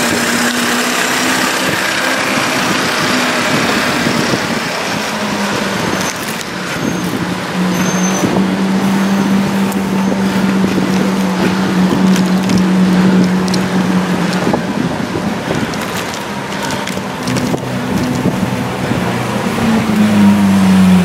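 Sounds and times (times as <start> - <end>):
road and wind noise: 0.0 - 21.0
vehicle engine running: 0.0 - 21.0.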